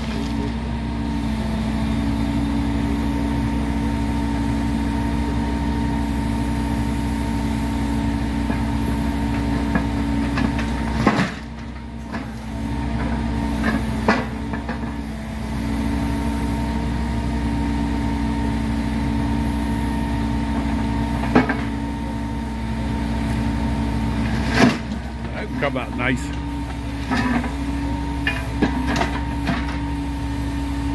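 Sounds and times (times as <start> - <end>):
heavy engine idling: 0.0 - 30.9.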